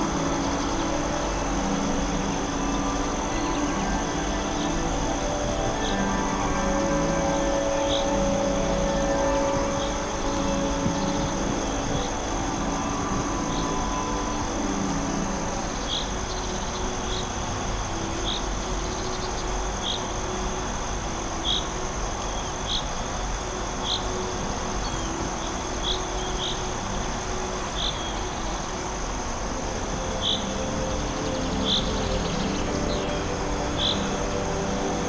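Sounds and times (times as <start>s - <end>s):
cricket-like chirp: 0.0s - 35.0s
high insect drone: 0.0s - 35.0s.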